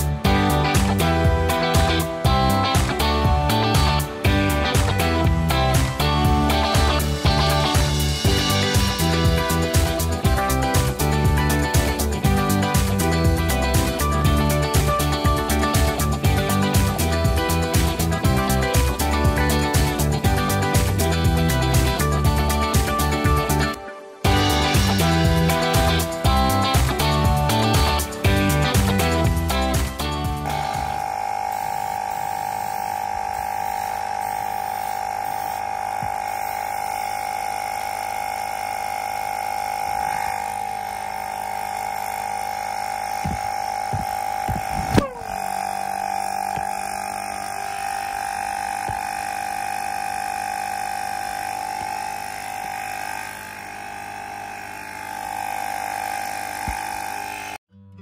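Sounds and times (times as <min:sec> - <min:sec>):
small motor buzzing: 0:00.0 - 0:57.6.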